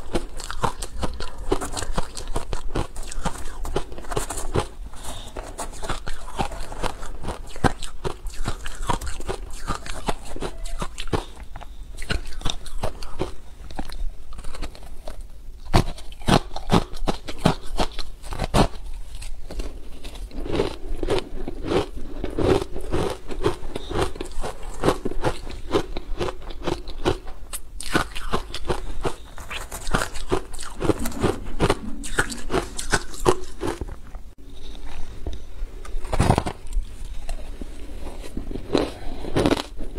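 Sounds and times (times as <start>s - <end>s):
crunching and chewing ice: 0.0s - 34.1s, 35.8s - 39.9s.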